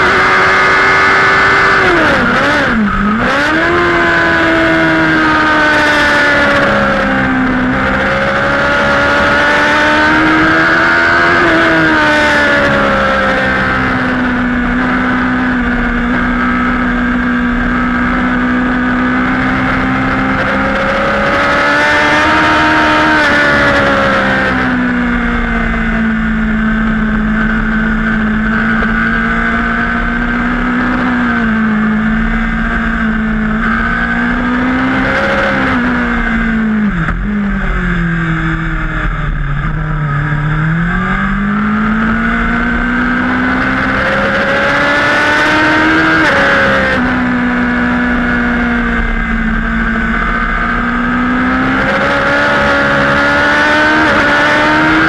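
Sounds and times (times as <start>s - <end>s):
superbike engine revving: 0.0s - 55.0s.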